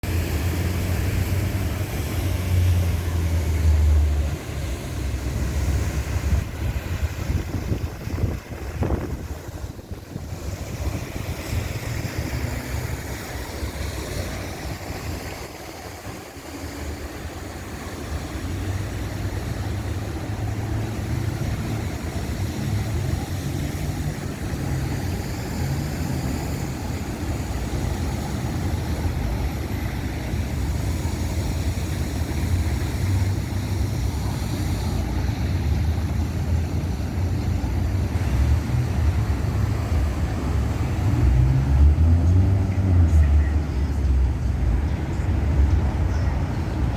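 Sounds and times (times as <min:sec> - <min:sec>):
wind buffeting microphone: 0:00.0 - 0:42.3
passing traffic: 0:00.0 - 0:46.9.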